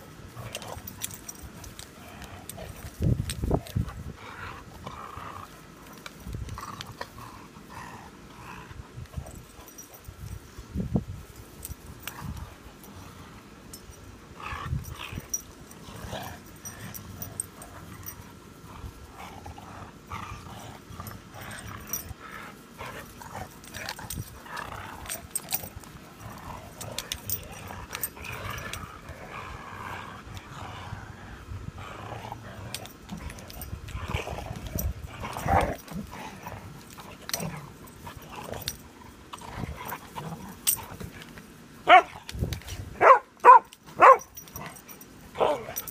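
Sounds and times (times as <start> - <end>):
dogs growling: 0.3 - 10.0, 14.3 - 45.9.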